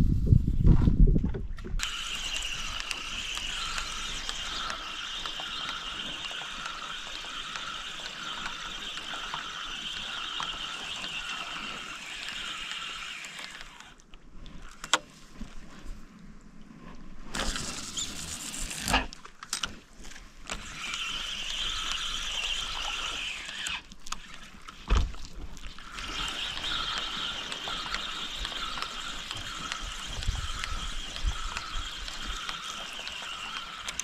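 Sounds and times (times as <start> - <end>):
fishing reel whirring: 1.8 - 14.8, 17.3 - 19.1, 20.4 - 34.0.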